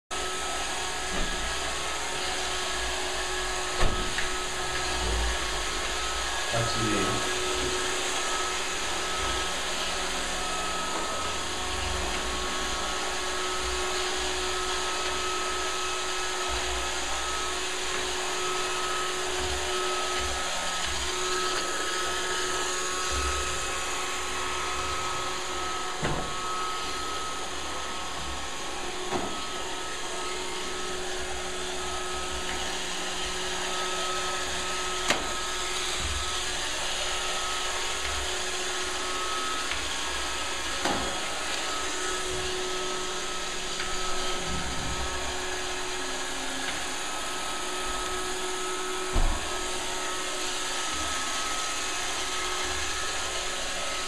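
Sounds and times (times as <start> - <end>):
robot vacuum motors whirring: 0.2 - 54.0.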